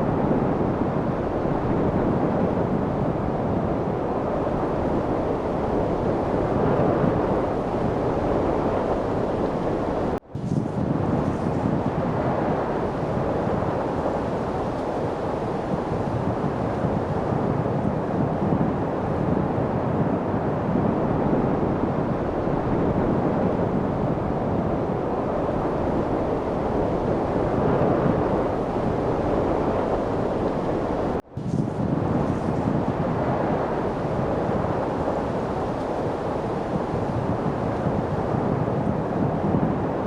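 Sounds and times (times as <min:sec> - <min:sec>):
steady wind rushing: 0:00.0 - 0:40.0.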